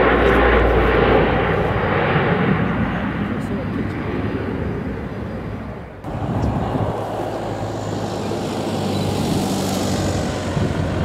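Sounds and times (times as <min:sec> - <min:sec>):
propeller aircraft passing overhead: 0:00.0 - 0:11.0.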